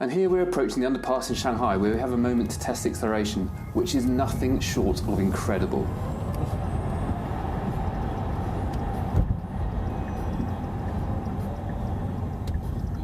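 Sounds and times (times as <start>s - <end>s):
road and tyre rumble: 1.7s - 13.0s.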